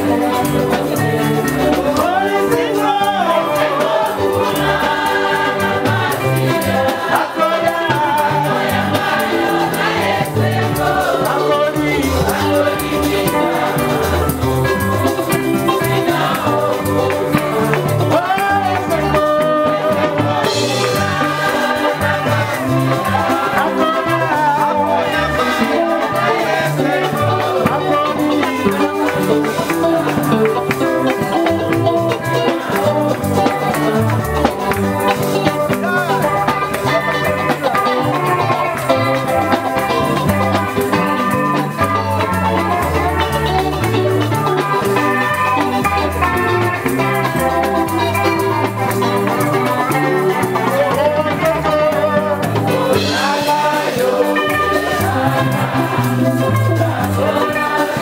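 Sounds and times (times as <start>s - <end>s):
bass line: 0.0s - 58.0s
church band playing gospel song: 0.0s - 58.0s
drums: 0.0s - 58.0s
electric guitar: 0.0s - 58.0s
keyboard: 0.0s - 58.0s
voices singing along: 0.0s - 58.0s.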